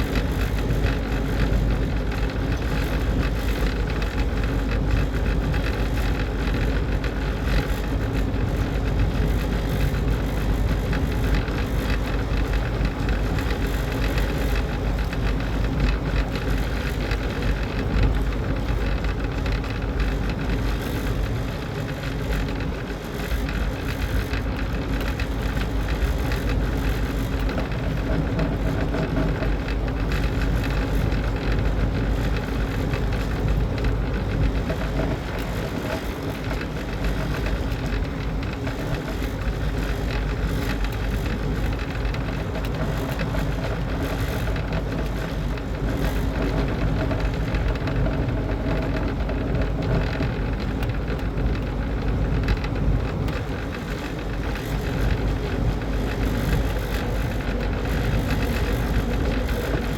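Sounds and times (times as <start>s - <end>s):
mechanical running noise with hum: 0.0s - 59.9s.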